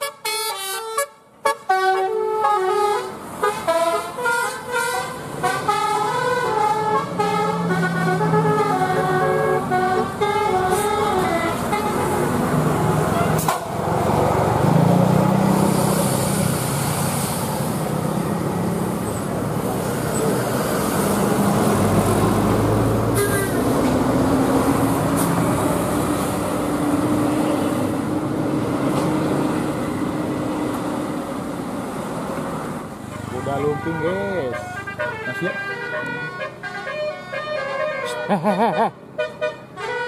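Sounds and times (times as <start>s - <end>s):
motorbikes road noise: 2.8s - 39.8s
coach diesel engine passing: 3.0s - 39.2s.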